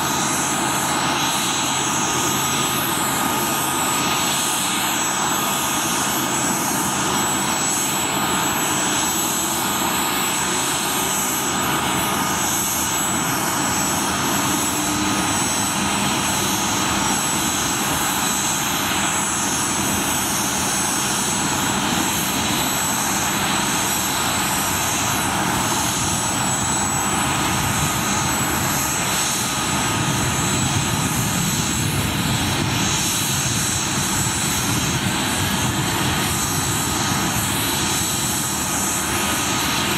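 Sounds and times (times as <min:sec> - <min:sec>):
helicopter engines whining: 0:00.0 - 0:39.9.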